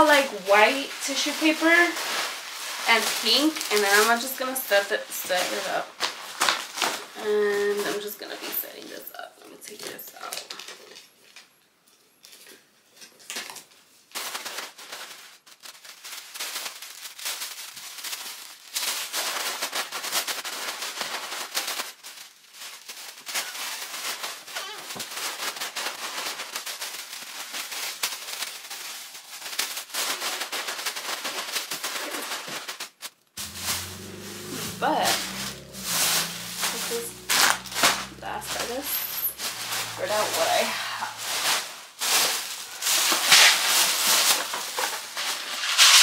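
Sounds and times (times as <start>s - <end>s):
tissue paper rustling and crinkling: 0.0s - 8.8s, 13.0s - 46.0s.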